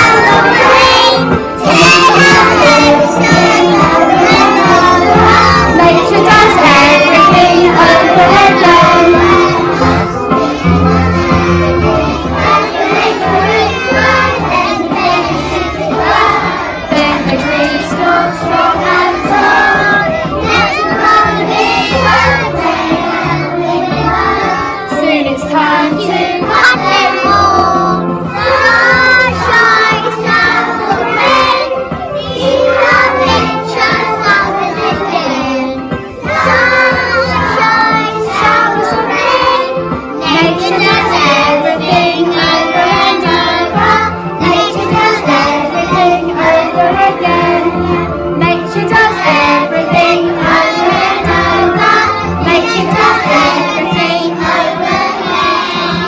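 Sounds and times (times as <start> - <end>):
children singing: 0.0 - 56.0
music with bass line: 0.0 - 56.0.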